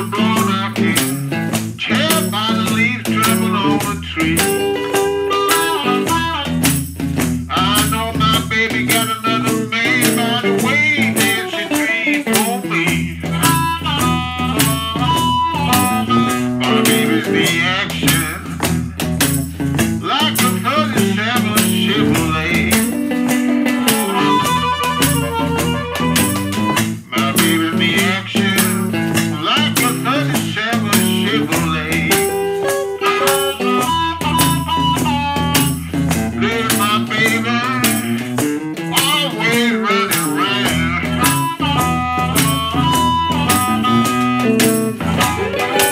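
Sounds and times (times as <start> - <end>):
amplified harmonica: 0.0 - 45.9
guitar: 0.0 - 45.9
washboard scraping beat: 0.0 - 45.9.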